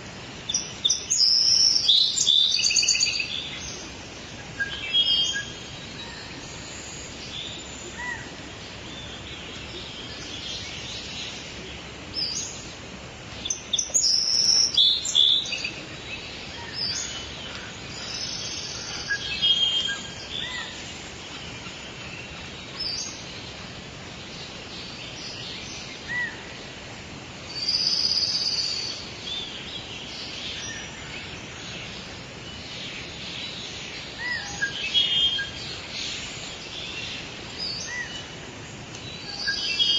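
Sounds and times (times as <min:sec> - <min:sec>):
steady background hiss: 0:00.0 - 0:39.9
birds chirping and calling: 0:00.4 - 0:26.6, 0:27.5 - 0:39.9.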